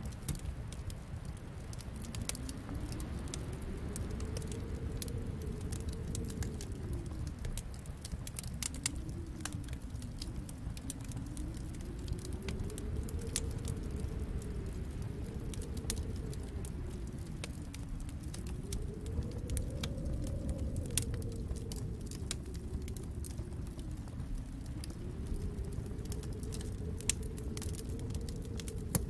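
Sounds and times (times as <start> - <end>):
fire pops and snaps: 0.0 - 29.0
low rumble of flames: 0.0 - 29.0.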